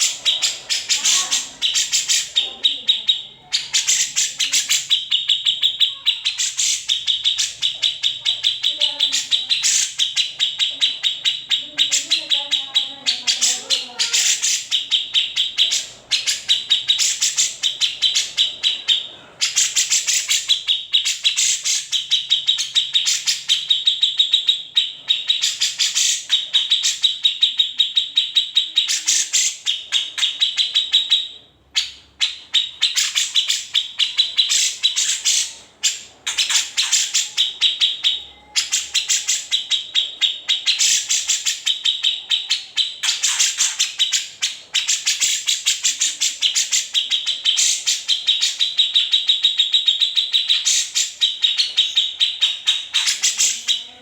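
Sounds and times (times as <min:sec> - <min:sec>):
bird singing rapid trills: 0:00.0 - 0:54.0.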